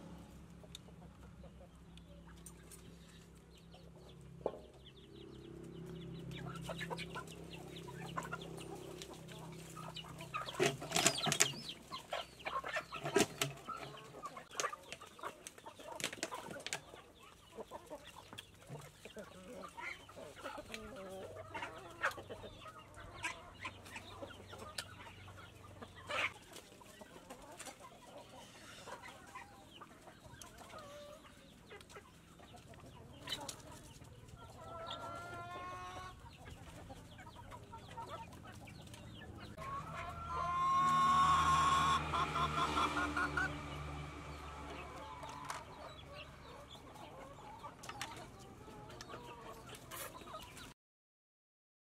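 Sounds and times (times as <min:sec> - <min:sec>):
chickens clucking: 0:00.0 - 0:50.8.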